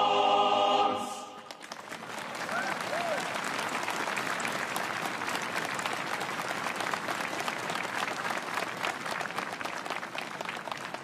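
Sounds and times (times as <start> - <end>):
crowd applauding: 1.4 - 11.0.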